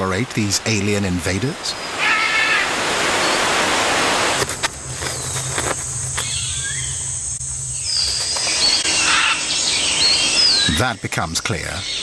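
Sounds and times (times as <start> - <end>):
insects buzzing: 1.4 - 12.0.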